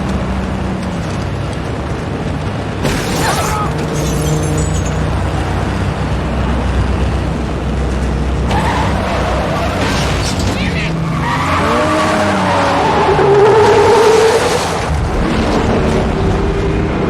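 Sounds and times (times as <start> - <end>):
vehicle engines low hum: 0.0 - 17.0.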